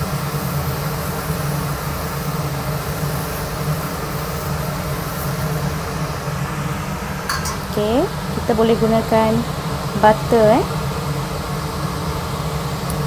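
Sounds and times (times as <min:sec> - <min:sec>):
kitchen fan humming: 0:00.0 - 0:13.0.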